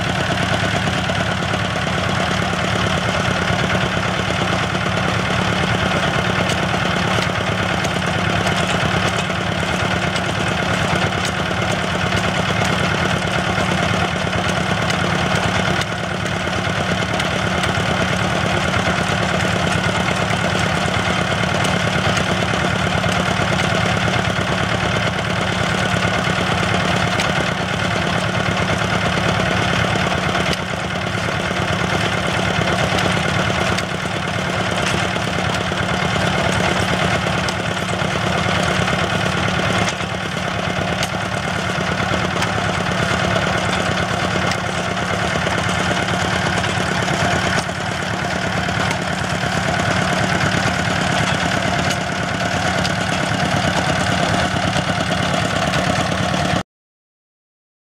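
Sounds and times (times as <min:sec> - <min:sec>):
drilling rig engines running: 0:00.0 - 0:56.6.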